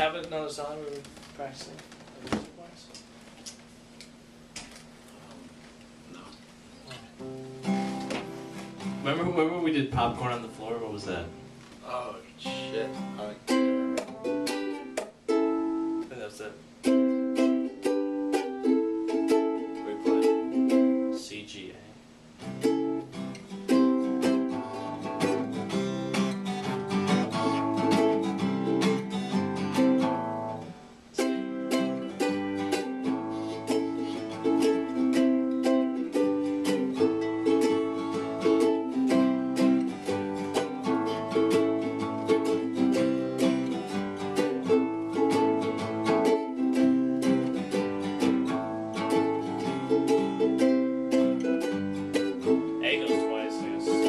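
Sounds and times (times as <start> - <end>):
acoustic guitar strumming: 6.8 - 21.3, 22.2 - 54.0
ukulele strumming: 6.9 - 21.4, 22.3 - 54.0.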